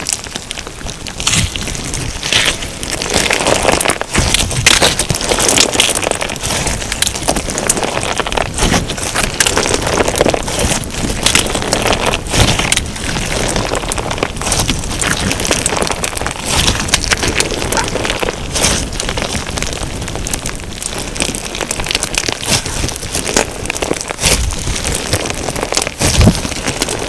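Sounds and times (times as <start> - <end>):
crunchy slime crackling: 0.0 - 27.0.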